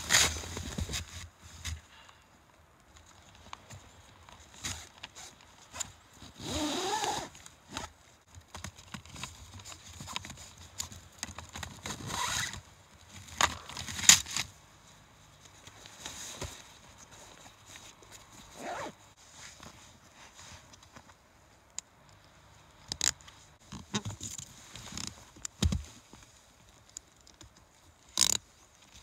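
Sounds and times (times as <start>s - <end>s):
straps rasping through buckles: 0.0s - 1.8s, 3.0s - 14.5s, 15.4s - 29.0s.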